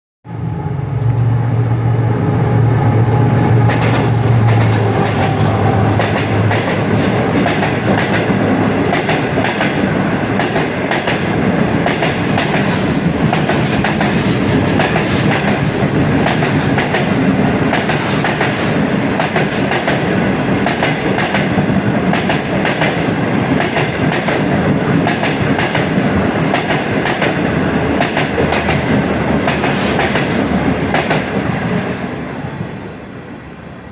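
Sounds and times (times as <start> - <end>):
train engine drone: 0.3 - 33.9.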